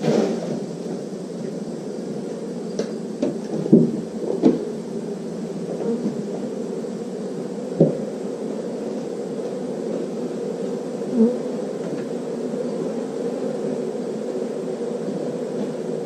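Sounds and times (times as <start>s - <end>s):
honeybee swarm buzzing: 0.0s - 16.0s.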